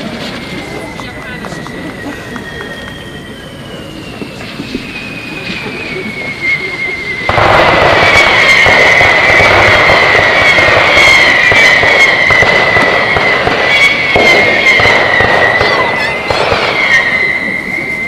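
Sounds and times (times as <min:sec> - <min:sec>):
fireworks crackling: 0:00.0 - 0:18.0
whistling fireworks: 0:00.0 - 0:18.0.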